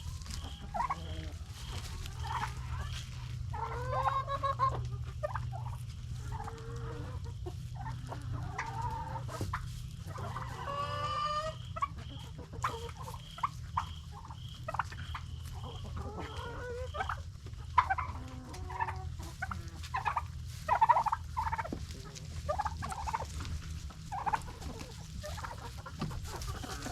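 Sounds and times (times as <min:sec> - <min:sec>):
chickens clucking: 0:00.0 - 0:26.9
turkeys gobbling: 0:00.0 - 0:26.9.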